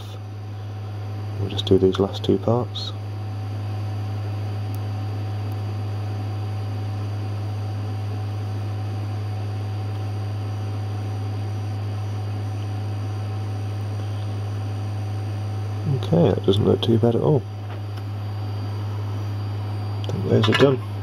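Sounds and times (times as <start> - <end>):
rework station humming: 0.0 - 21.0.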